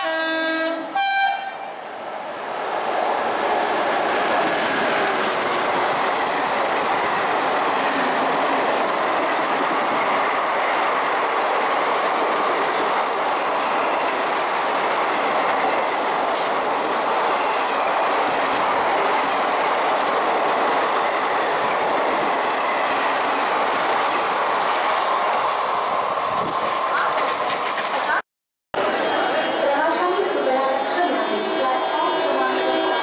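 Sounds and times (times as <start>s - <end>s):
train wheels on track: 0.0s - 28.2s.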